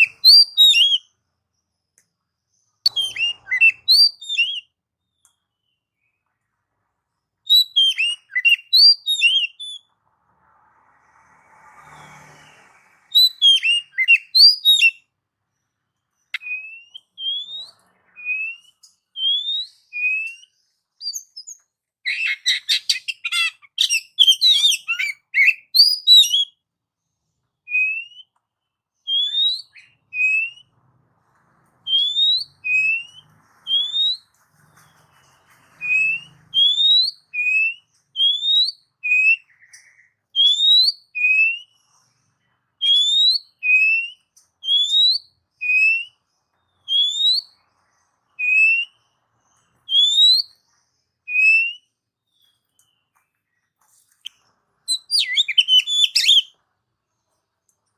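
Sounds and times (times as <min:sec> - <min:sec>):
songbird whistling and twittering: 0:00.0 - 0:01.2, 0:01.8 - 0:06.3, 0:07.4 - 0:09.9, 0:12.3 - 0:26.6, 0:27.6 - 0:30.8, 0:31.8 - 0:53.6, 0:54.2 - 0:56.6.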